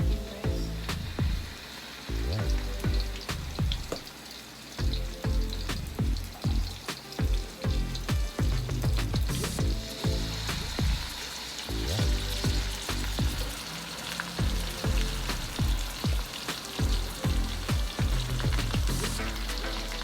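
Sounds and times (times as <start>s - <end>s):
deep bass notes sliding down: 0.0s - 3.9s, 4.8s - 11.1s, 11.7s - 13.6s, 14.4s - 16.0s, 16.8s - 20.0s
chicken sizzling in a pan: 1.5s - 8.5s, 9.3s - 20.0s.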